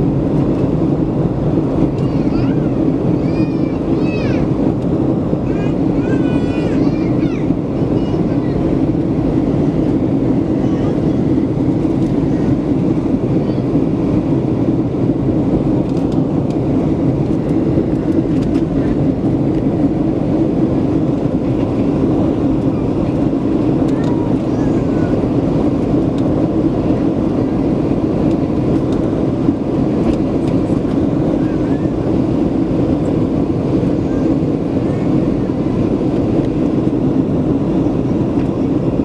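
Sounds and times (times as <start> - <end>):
airplane cabin engine drone: 0.0 - 39.0.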